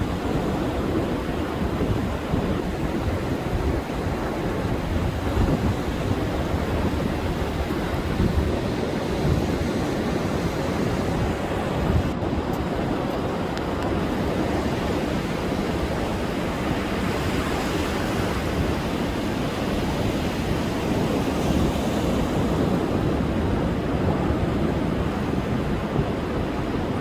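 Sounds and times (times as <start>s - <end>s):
storm surf breaking on beach: 0.0s - 27.0s
wind buffeting microphone: 0.0s - 27.0s.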